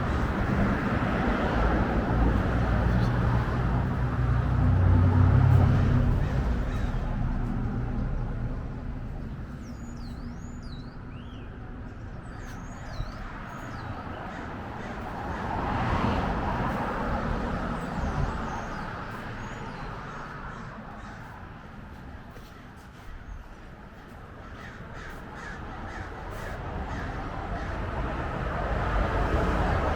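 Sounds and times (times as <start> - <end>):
vehicle passing: 0.0 - 23.1, 24.9 - 29.9
birds chirping: 0.0 - 28.0
low traffic rumble: 0.0 - 29.9.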